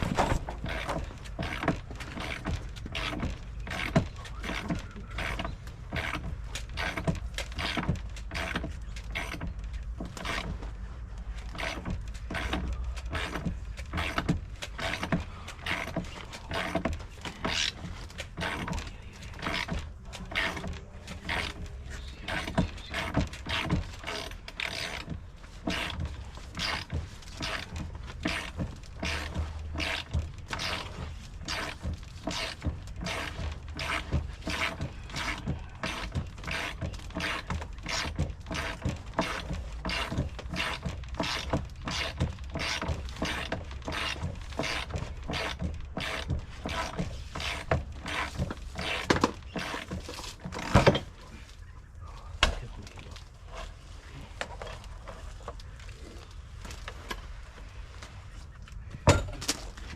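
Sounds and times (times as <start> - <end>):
hand tools clicking on wood: 0.0 - 51.6.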